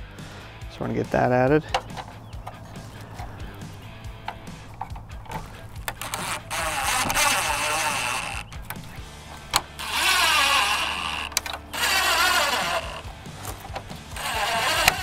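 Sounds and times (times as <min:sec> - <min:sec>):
impact driver running screws: 0:01.7 - 0:15.0
small clicks: 0:01.7 - 0:15.0.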